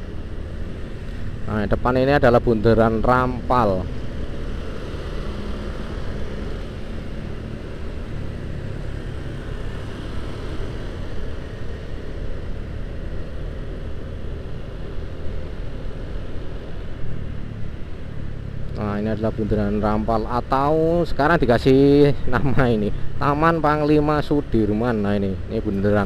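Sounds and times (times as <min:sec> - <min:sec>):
motorcycle engine hum: 0:00.0 - 0:26.0
road noise: 0:00.0 - 0:26.0.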